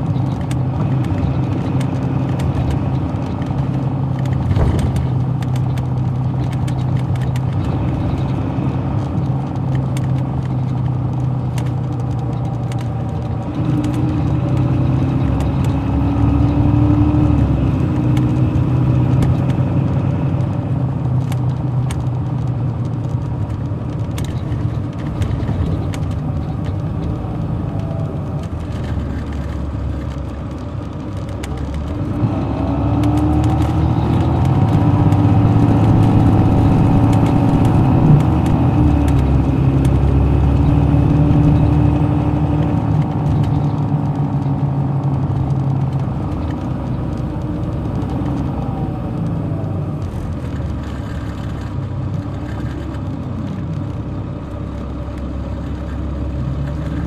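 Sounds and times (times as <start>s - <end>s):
clicks and rattles: 0.0s - 15.8s, 17.9s - 48.5s
diesel bus engine drone: 0.0s - 57.0s.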